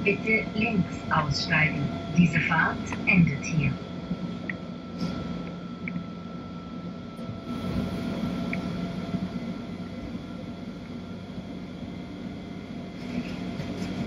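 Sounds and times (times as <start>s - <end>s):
railcar rumbling: 0.0s - 5.5s, 7.2s - 14.0s
faint motor whine: 0.0s - 14.0s.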